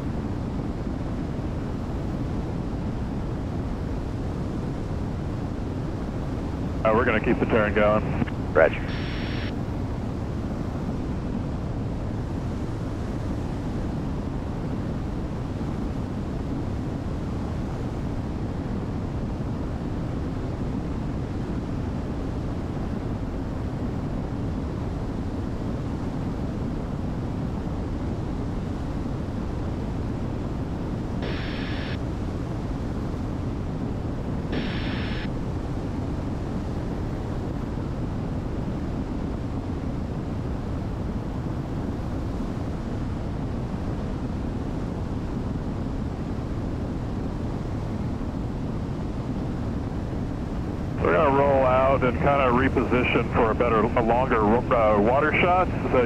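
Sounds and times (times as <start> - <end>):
aircraft cabin engine drone: 0.0 - 11.4, 21.0 - 56.0.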